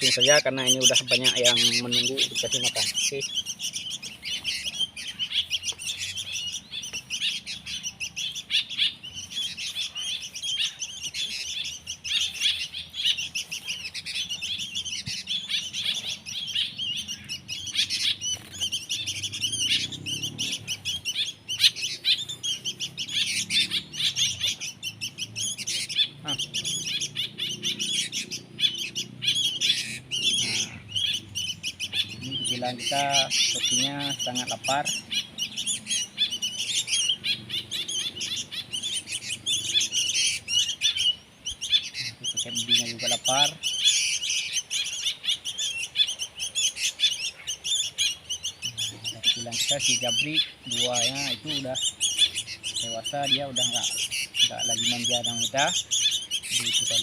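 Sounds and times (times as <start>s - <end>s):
nestlings begging chirps: 0.0s - 57.0s.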